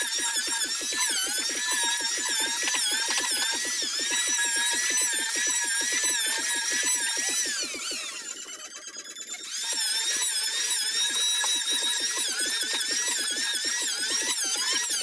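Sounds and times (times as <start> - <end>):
electric planer whining: 0.0 - 15.0.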